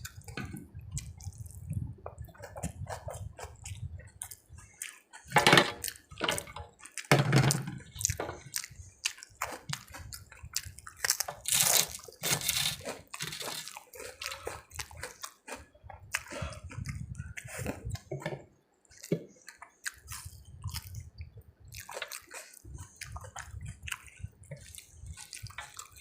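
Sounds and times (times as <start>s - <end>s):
wet chewing and mouth smacks: 0.0s - 7.1s, 7.8s - 18.2s, 18.8s - 26.0s.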